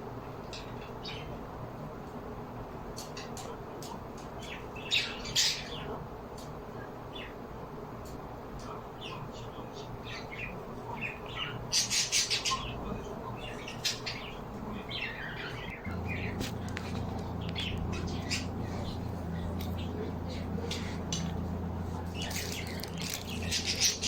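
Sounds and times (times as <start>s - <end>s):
steady low hum: 0.0s - 24.0s
small birds chirping: 0.4s - 2.2s, 2.9s - 24.0s.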